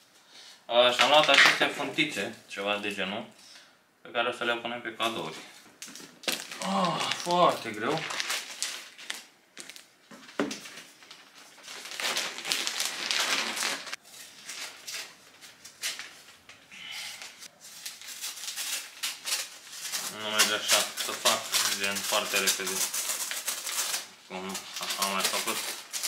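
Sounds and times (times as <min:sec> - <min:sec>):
wrapping paper rustling and crinkling: 0:05.0 - 0:26.0.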